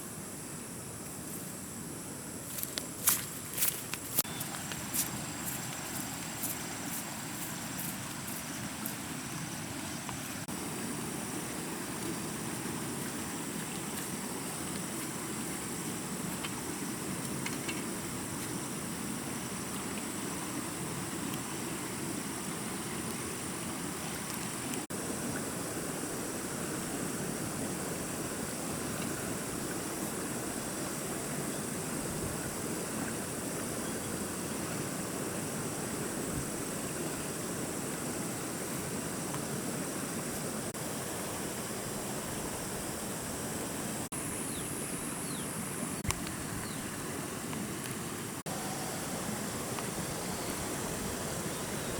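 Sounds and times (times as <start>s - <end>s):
faint high hiss: 0.0s - 51.9s
rushing water: 2.5s - 51.9s.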